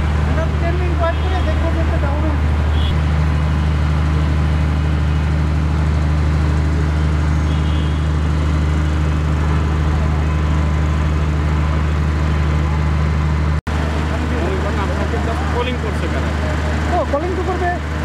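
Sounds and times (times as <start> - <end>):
heavy machinery engine drone: 0.0 - 18.0.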